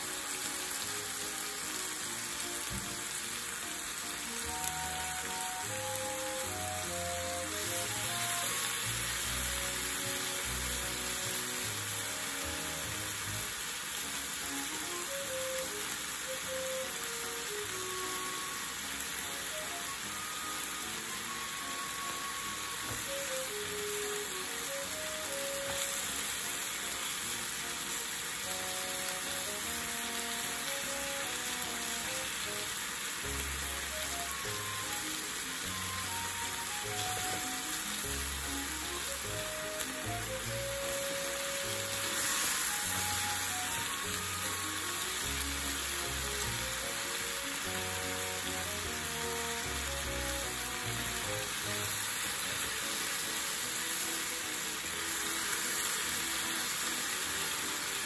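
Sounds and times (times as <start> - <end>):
pork and onion sizzling in a pan: 0.0 - 58.0.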